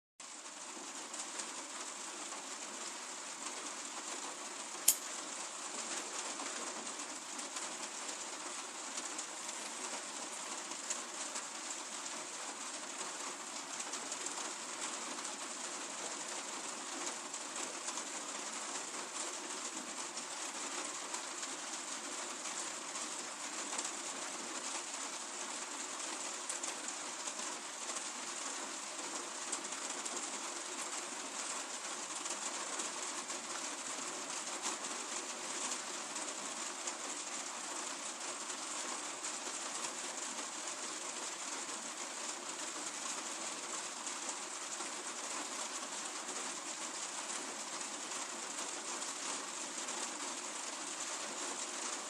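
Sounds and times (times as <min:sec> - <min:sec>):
steady rain falling: 0:00.2 - 0:52.0.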